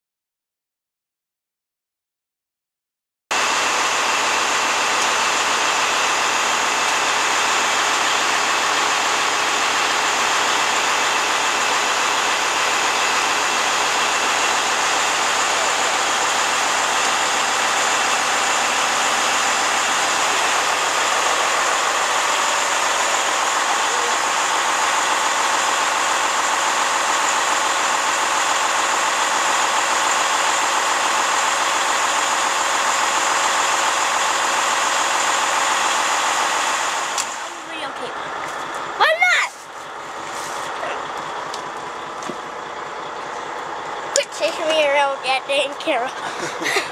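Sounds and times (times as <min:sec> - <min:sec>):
truck diesel engine idling: 0:03.3 - 0:46.9.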